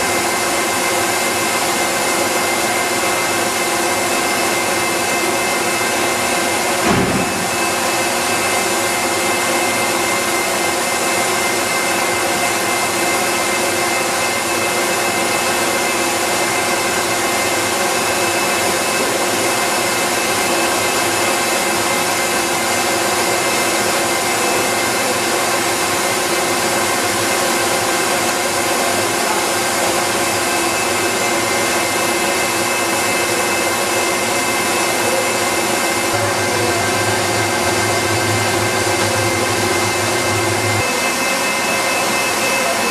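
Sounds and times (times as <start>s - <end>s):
factory machinery whirring: 0.0s - 42.9s
steady high tone: 3.0s - 22.4s, 28.0s - 42.9s.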